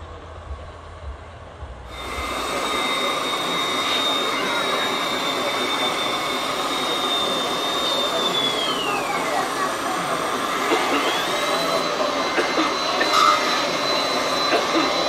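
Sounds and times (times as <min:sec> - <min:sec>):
hydraulic pump whining: 0:01.9 - 0:15.0
rushing hiss: 0:01.9 - 0:15.0.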